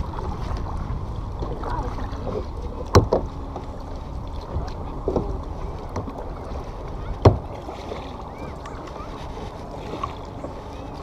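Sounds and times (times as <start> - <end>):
low rush of wind and water: 0.0 - 11.0
paddle swishing water: 0.0 - 11.0.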